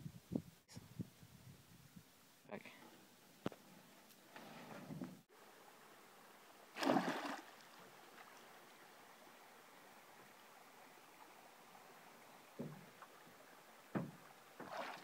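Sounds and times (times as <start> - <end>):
faint water noise: 2.4 - 15.0.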